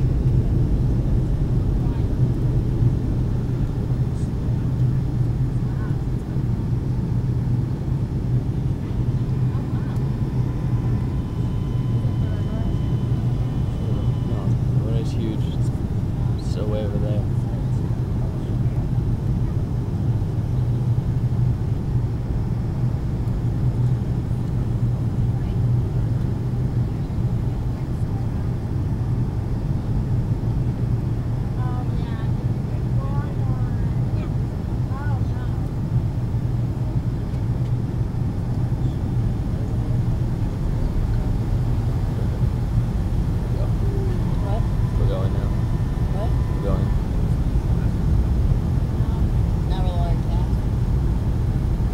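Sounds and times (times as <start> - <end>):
airliner cabin drone: 0.0 - 51.9.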